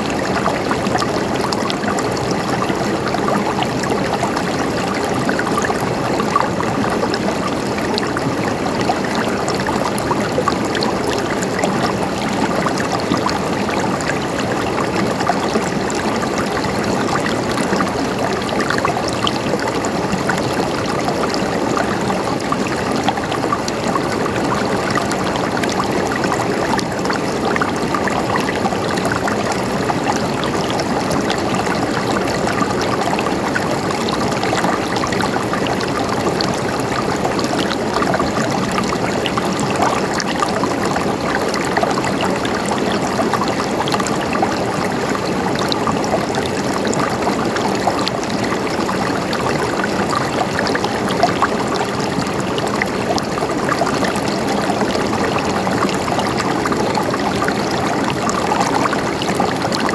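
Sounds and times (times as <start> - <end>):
stream water flowing and gurgling: 0.0 - 59.9.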